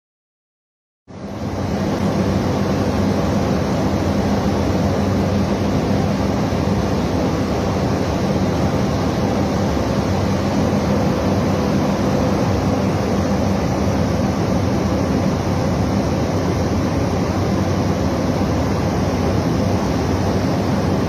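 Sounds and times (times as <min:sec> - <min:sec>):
small aircraft engine and propeller: 0:01.1 - 0:21.0.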